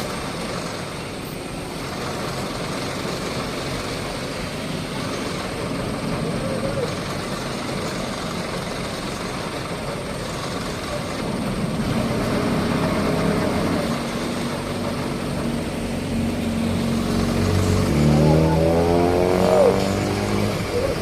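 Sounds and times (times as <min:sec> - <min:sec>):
outdoor rumble: 0:00.0 - 0:21.0
vehicle engine running: 0:00.0 - 0:21.0.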